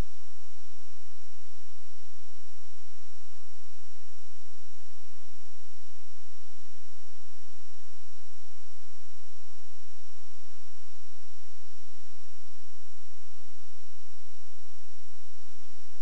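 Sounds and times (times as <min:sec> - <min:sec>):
electronic hum and hiss: 0:00.0 - 0:16.0
thin high whine: 0:00.0 - 0:16.0.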